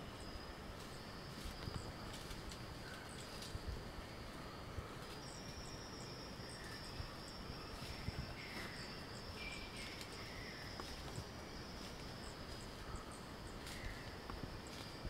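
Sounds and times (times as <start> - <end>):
faint ticks and rustles: 0.0 - 15.0
forest insects droning: 0.0 - 15.0.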